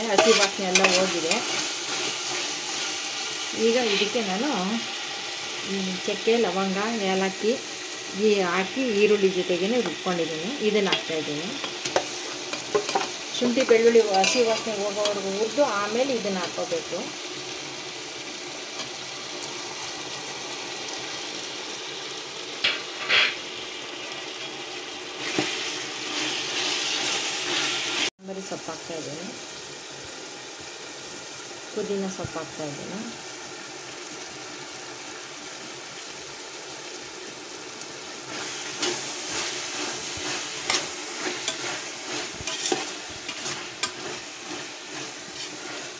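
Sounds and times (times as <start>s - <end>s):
chicken frying in oil: 0.0s - 45.9s
food sizzling in a pot: 0.0s - 45.9s.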